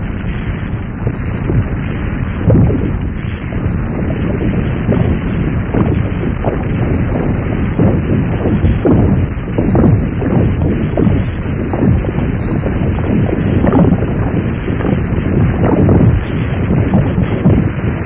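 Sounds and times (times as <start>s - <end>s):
distorted noise rumble: 0.0s - 18.0s.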